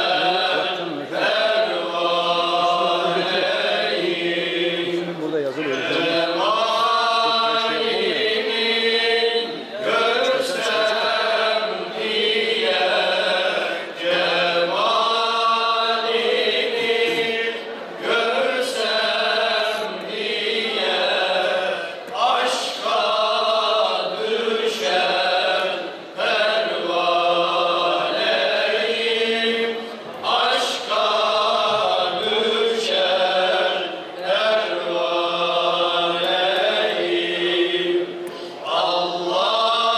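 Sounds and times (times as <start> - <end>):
men singing a hymn together: 0.0 - 39.9.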